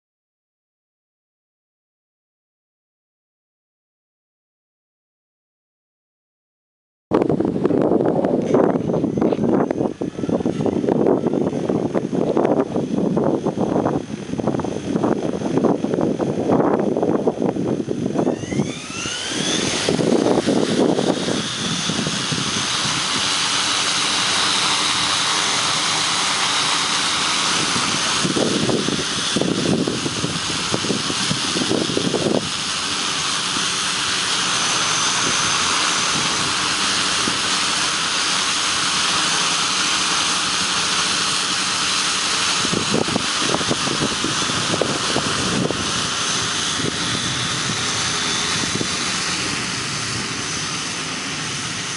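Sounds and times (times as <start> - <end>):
low gusty rushing: 7.1 - 51.9
drone motors whining: 7.2 - 51.9.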